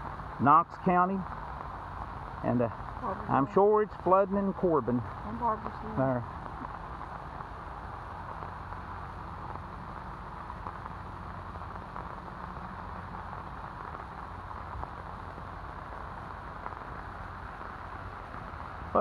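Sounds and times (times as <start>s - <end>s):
rain falling on wet road: 0.0s - 19.0s.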